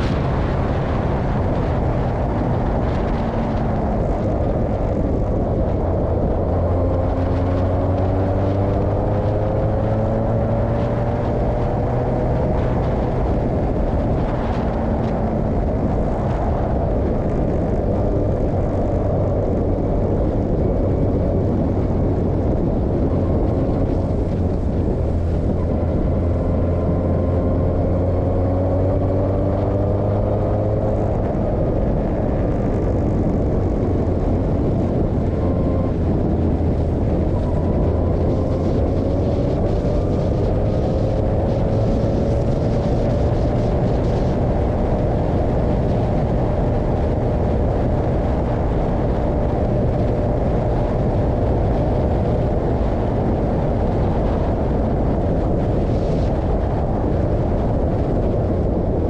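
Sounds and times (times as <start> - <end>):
race car engine running hard: 0.0 - 59.0
wind rush: 0.0 - 59.0.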